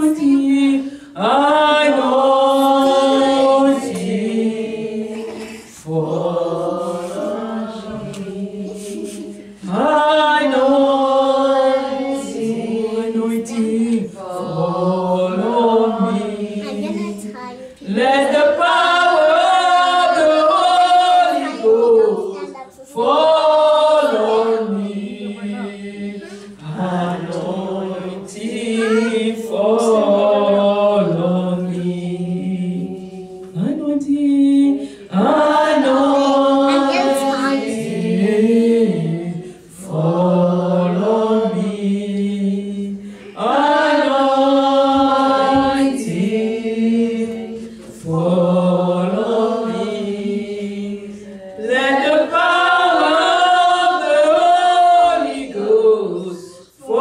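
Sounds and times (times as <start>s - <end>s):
voices singing along: 0.0s - 57.0s.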